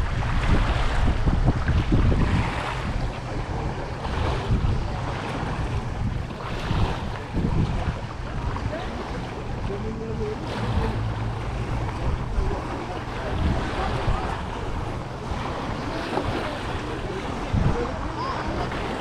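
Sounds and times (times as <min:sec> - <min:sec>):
waves lapping on pebbles: 0:00.0 - 0:19.0
wind buffeting microphone: 0:00.0 - 0:19.0
faint voices: 0:02.9 - 0:19.0.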